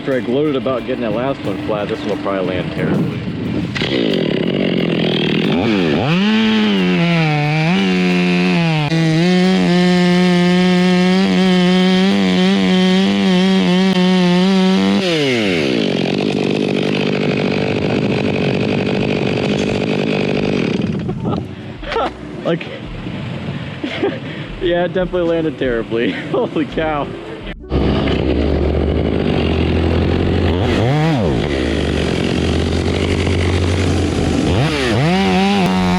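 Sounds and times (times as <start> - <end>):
electric chainsaw cutting wood: 0.0 - 22.1, 27.7 - 35.9.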